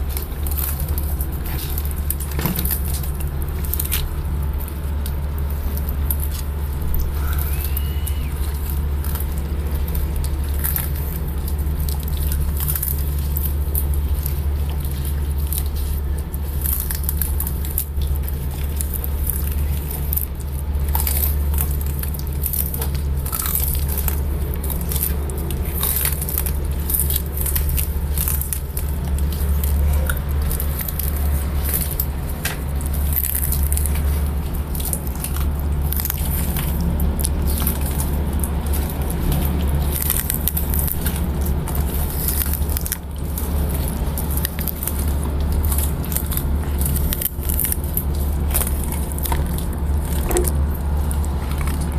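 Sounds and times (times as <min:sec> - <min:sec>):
steady low hum: 0:00.0 - 0:51.9
tortoises crunching leaves: 0:00.0 - 0:51.9.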